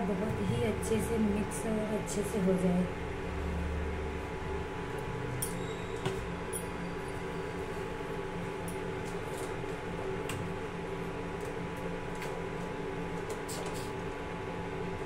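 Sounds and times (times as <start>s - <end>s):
induction cooktop humming: 0.0s - 15.0s.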